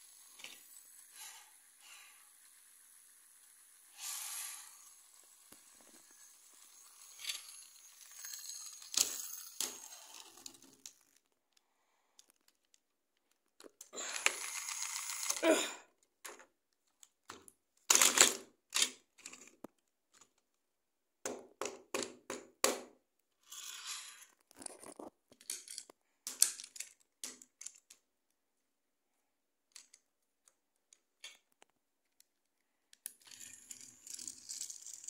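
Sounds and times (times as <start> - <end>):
toy train cars clicking on track: 0.0 - 15.5, 16.2 - 20.5, 21.6 - 28.1, 29.7 - 32.3, 32.9 - 35.0.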